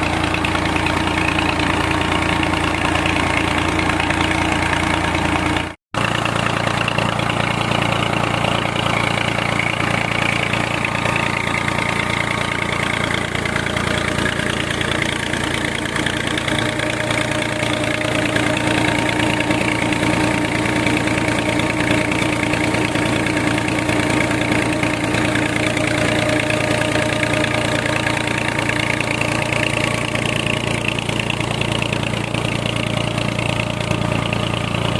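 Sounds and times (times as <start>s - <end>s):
tractor engine running under load: 0.0s - 34.9s.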